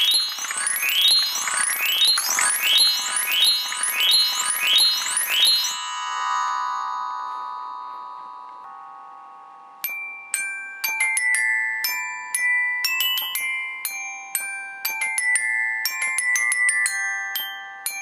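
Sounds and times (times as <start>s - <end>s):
robotic glockenspiel playing a tune: 0.0s - 18.0s.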